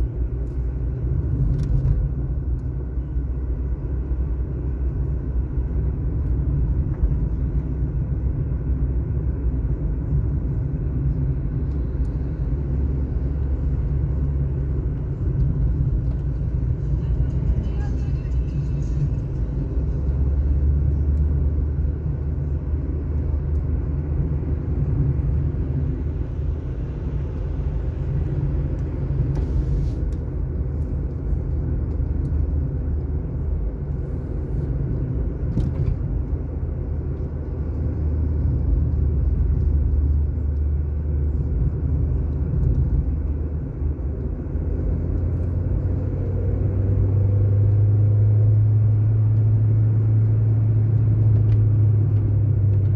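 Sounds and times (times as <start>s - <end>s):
car engine drone: 0.0s - 52.9s.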